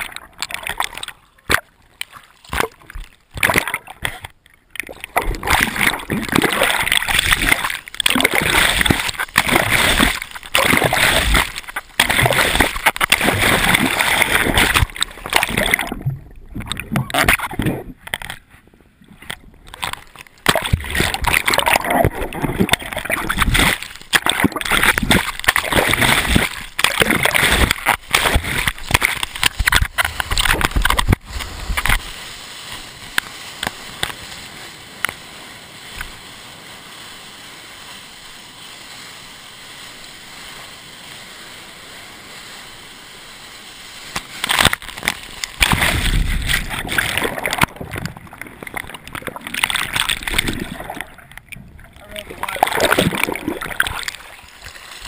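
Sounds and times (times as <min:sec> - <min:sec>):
seawater splashing and churning: 0:00.0 - 0:55.0.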